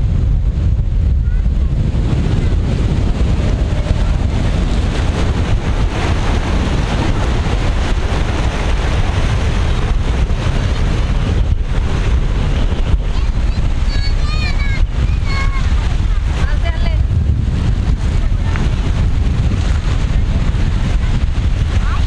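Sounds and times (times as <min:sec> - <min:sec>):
sea surf breaking: 0:00.0 - 0:22.0
wind buffeting microphone: 0:00.0 - 0:22.0.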